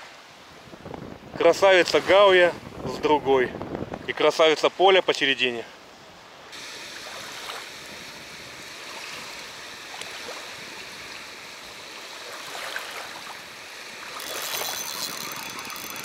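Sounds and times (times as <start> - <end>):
small waves washing on shore: 0.0 - 4.4, 5.0 - 16.0.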